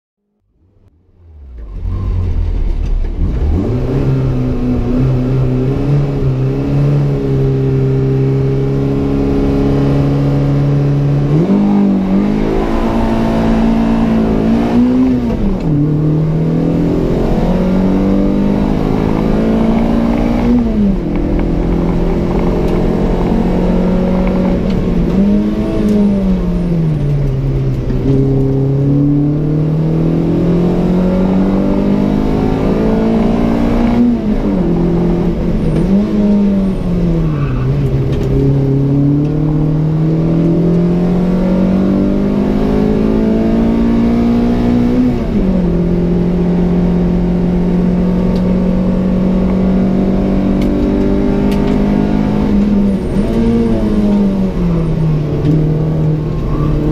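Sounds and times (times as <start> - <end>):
car engine from inside cabin: 0.5 - 56.9.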